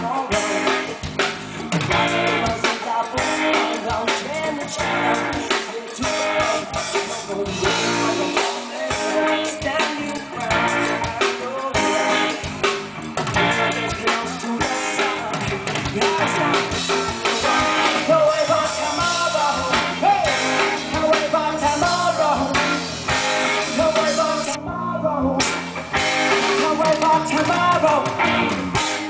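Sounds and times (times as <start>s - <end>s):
person singing: 0.0s - 12.6s, 13.4s - 29.0s
drum kit: 0.0s - 29.0s
electric guitars: 0.0s - 29.0s.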